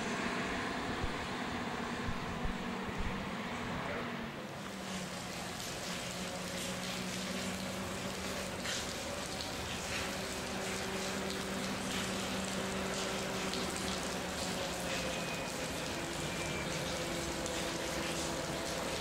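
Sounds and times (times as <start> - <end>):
distant diesel locomotive running: 0.0 - 19.0.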